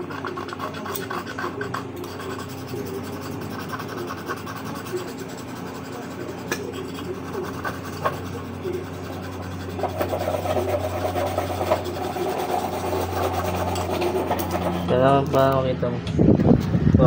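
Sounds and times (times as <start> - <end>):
scraping grime off metal: 0.0 - 15.1
steady low hum: 0.0 - 17.0.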